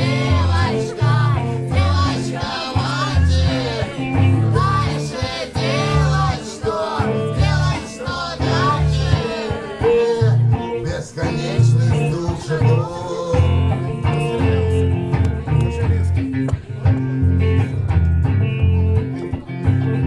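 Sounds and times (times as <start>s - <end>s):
bass line: 0.0s - 20.0s
guitar: 0.0s - 20.0s
live band music: 0.0s - 20.0s.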